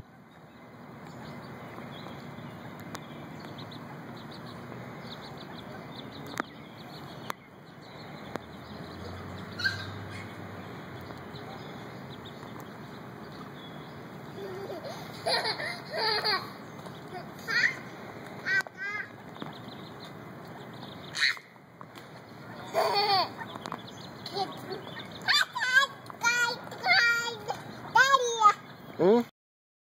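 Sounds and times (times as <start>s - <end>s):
ducklings peeping: 0.1s - 29.3s.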